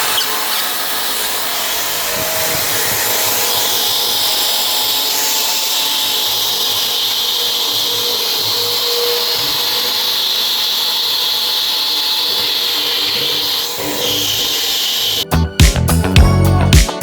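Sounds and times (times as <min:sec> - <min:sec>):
power tool hissing: 0:00.0 - 0:15.2.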